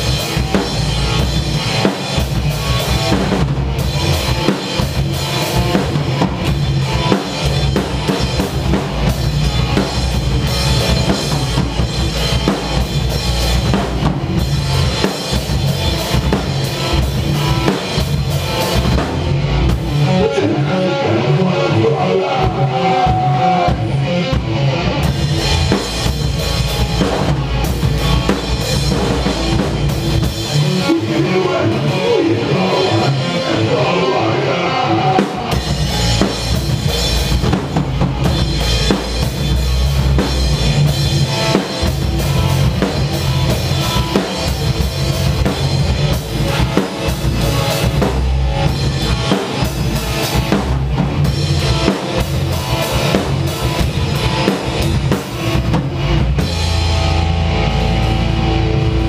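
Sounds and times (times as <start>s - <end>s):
amplified electric guitars: 0.0s - 59.0s
drum kit playing: 0.0s - 59.0s.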